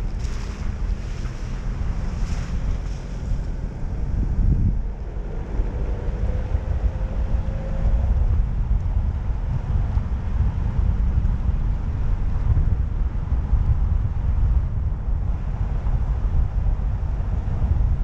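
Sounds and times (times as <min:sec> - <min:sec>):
car driving rumble: 0:00.0 - 0:18.0
wind buffeting microphone: 0:00.0 - 0:18.0.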